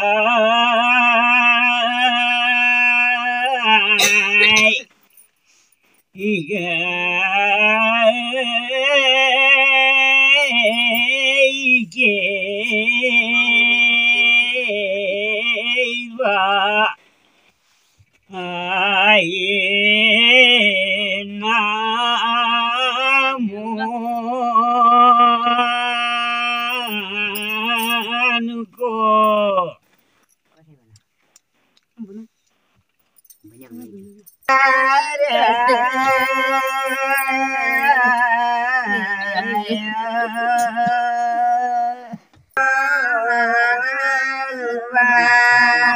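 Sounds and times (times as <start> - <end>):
man singing unaccompanied: 0.0 - 4.9, 6.1 - 17.0, 18.3 - 29.8, 33.8 - 45.9.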